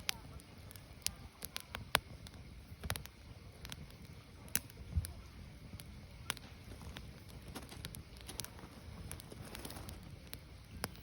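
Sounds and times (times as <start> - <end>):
firewood crackling and popping: 0.0 - 11.0
low rumble of fire: 0.0 - 11.0.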